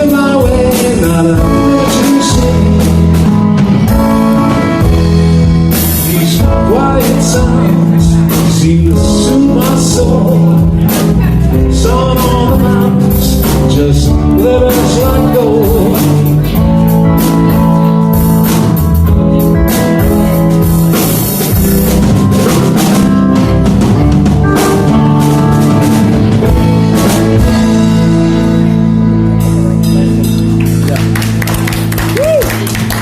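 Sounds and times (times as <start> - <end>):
drum kit: 0.0 - 33.0
guitar and bass: 0.0 - 33.0.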